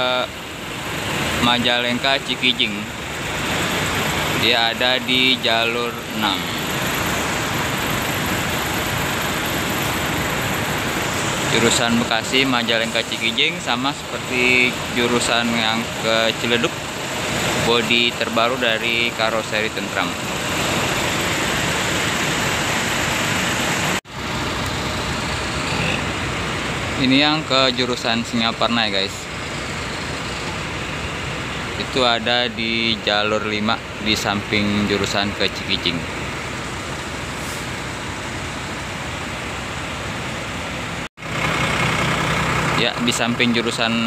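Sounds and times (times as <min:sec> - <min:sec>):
coaches idling: 0:00.0 - 0:40.5
buses rumbling and hissing: 0:00.0 - 0:44.0
low engine hum: 0:00.0 - 0:44.0.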